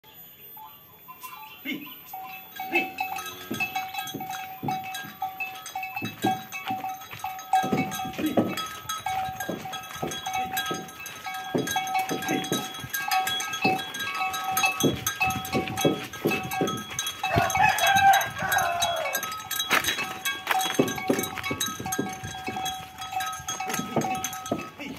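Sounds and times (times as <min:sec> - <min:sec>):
ox bells ringing: 0:00.0 - 0:24.9
hooves and cart clattering: 0:01.1 - 0:24.9.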